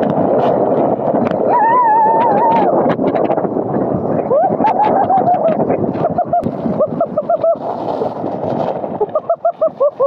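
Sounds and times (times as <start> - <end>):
sled scraping over icy snow: 0.0 - 10.0.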